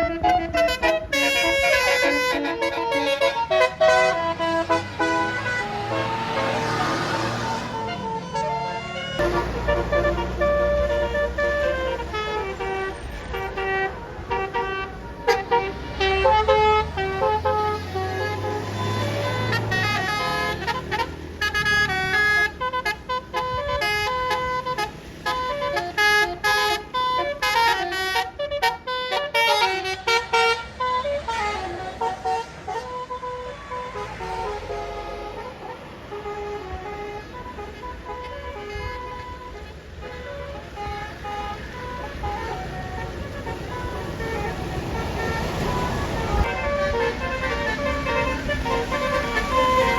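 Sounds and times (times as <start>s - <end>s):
low engine rumble: 0.0s - 49.9s
musical bus horn melody: 0.0s - 49.9s.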